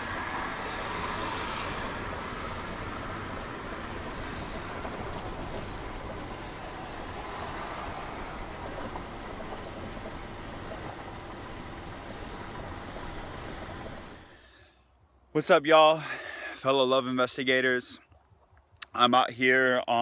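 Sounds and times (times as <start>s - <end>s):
road and wind noise in vehicle: 0.0s - 20.0s.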